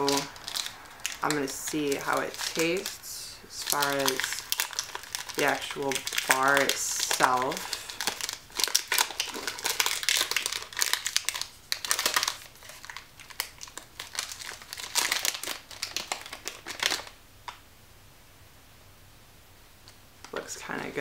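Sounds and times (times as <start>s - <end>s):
plastic wrapper crinkling: 0.0s - 17.6s.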